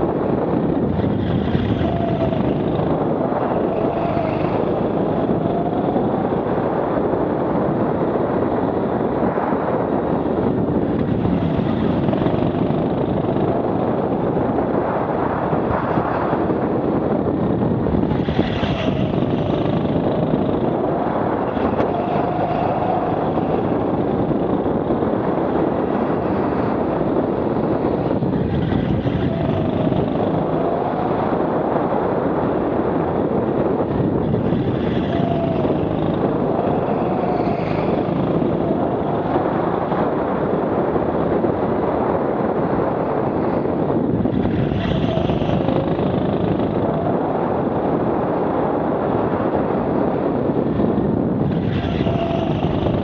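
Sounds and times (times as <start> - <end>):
go-kart drive noise: 0.0 - 53.0.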